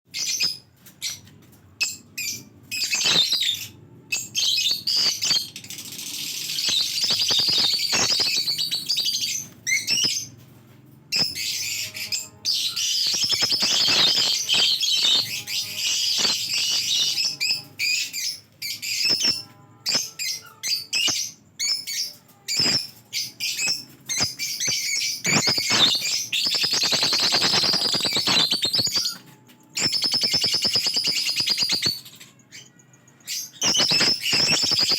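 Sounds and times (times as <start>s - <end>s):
lovebirds chattering shrilly: 2.2s - 10.4s, 11.1s - 29.2s, 29.8s - 34.9s.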